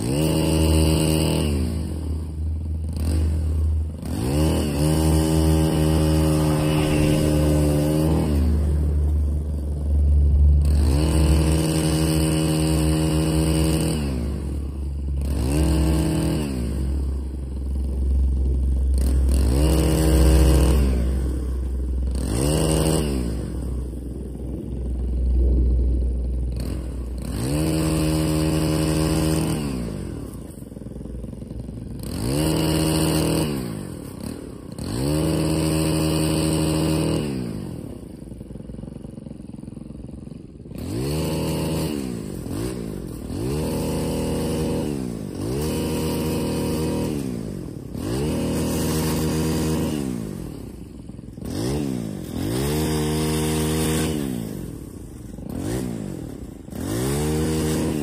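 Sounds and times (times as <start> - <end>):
small gas engine revving: 0.0 - 58.0.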